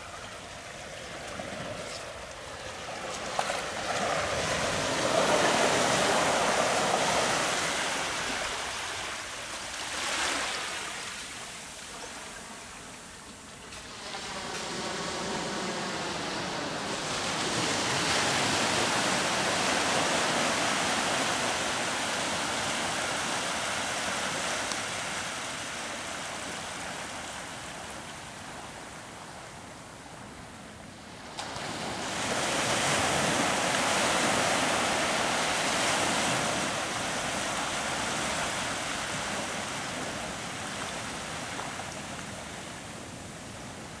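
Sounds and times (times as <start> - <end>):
ocean surf on sandy beach: 0.0 - 44.0.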